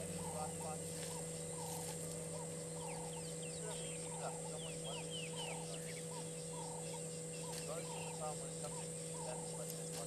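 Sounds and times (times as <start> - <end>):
birds calling: 0.0 - 10.0
steady background hum: 0.0 - 10.0.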